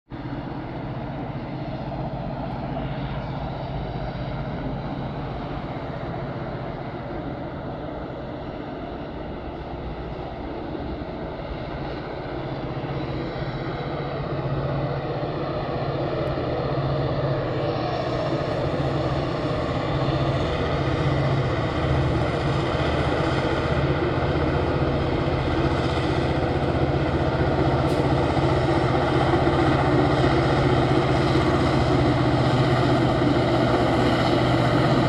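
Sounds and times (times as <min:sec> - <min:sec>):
diesel locomotive engine droning: 0:00.1 - 0:35.0
road traffic noise: 0:00.1 - 0:35.0.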